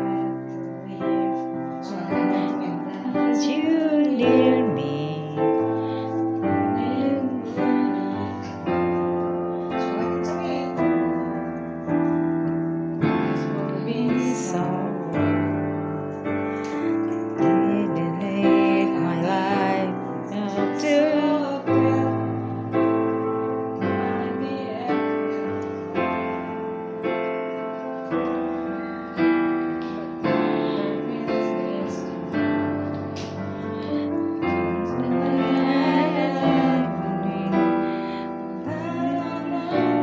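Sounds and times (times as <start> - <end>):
digital piano chords: 0.0 - 40.0.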